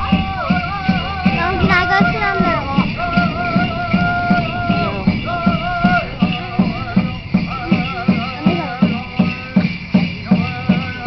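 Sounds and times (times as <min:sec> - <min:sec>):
group singing: 0:00.0 - 0:11.0
large hand drum beating: 0:00.0 - 0:11.0.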